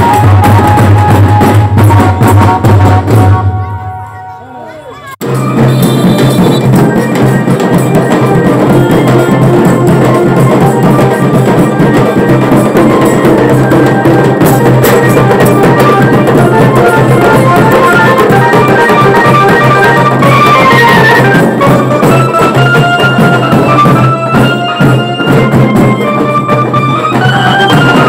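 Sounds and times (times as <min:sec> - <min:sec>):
steady drumming: 0:00.0 - 0:03.8, 0:05.1 - 0:28.0
fast melody of short notes: 0:05.2 - 0:28.0.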